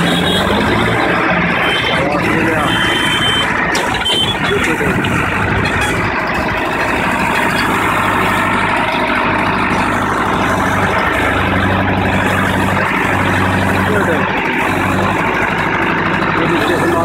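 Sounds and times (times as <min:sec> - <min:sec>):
tractor diesel engine humming: 0:00.0 - 0:17.0.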